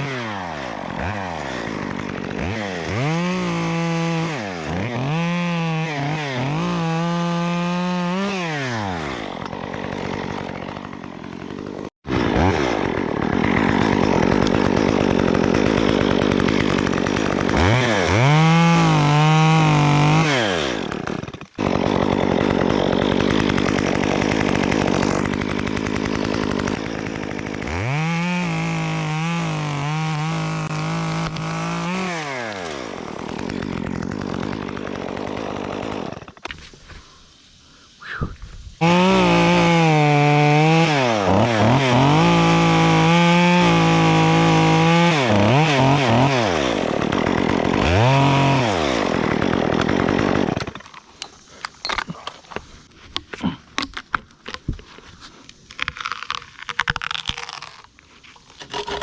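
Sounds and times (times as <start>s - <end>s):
chainsaw revving: 0.0s - 36.5s, 38.8s - 51.8s, 58.6s - 59.0s.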